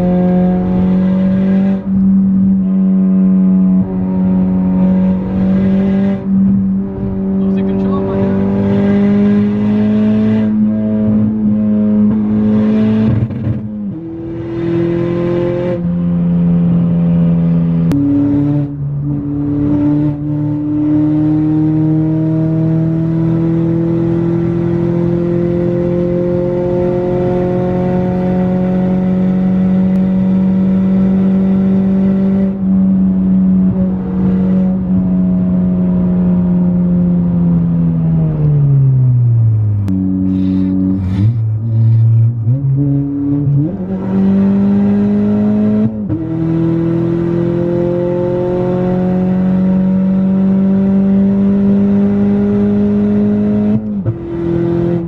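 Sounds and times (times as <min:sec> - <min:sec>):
car engine revving high: 0:00.0 - 0:55.0.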